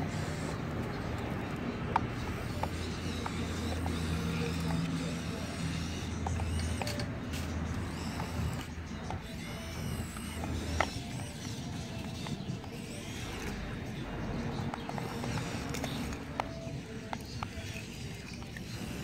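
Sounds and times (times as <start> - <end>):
gears clicking: 0.0 - 19.0
toy excavator motors whirring: 0.0 - 19.0.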